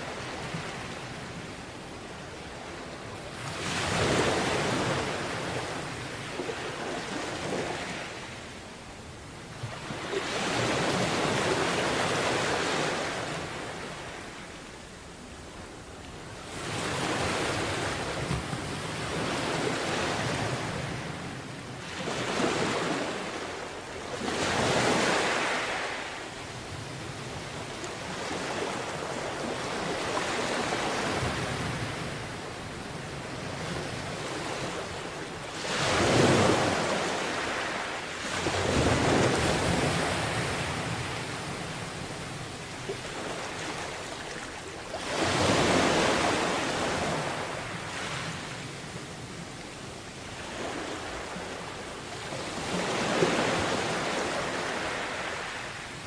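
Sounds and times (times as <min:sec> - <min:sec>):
sea waves breaking on beach: 0:02.6 - 0:08.3, 0:16.4 - 0:56.0.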